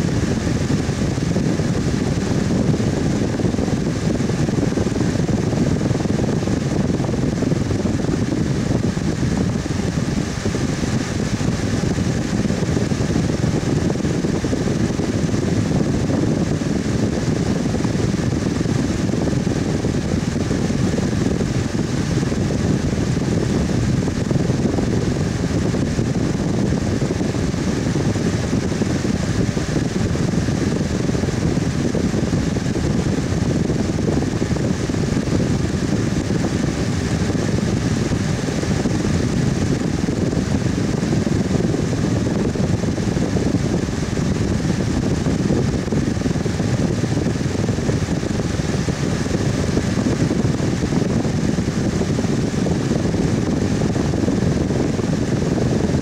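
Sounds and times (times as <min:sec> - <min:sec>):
electric fan whooshing: 0:00.0 - 0:56.0.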